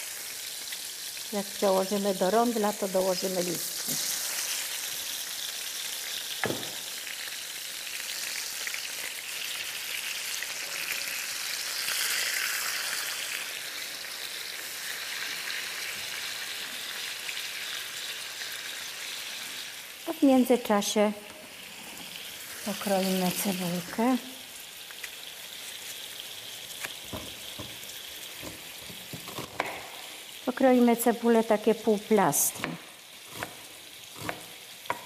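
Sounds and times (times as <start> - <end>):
meat sizzling in a frying pan: 0.0 - 35.0.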